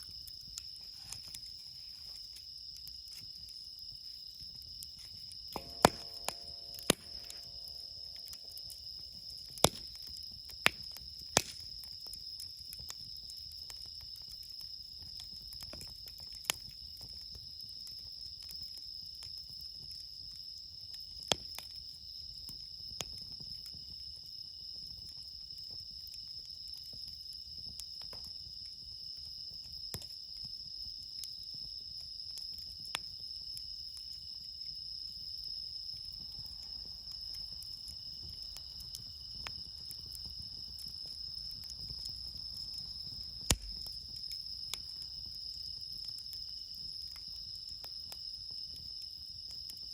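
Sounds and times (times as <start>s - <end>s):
night insects chorus: 0.0s - 19.8s, 20.4s - 49.9s
campfire popping: 0.0s - 21.8s, 22.4s - 49.9s.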